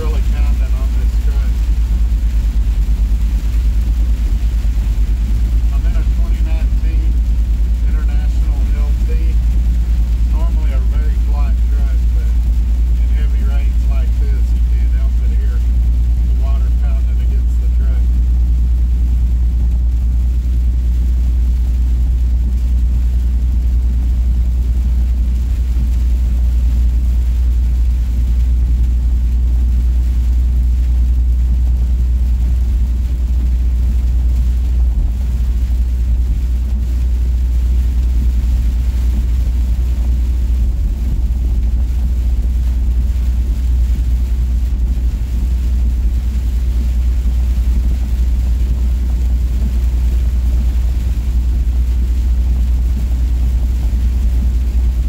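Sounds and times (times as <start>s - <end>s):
diesel truck engine drone: 0.0s - 55.0s
road noise: 0.0s - 55.0s.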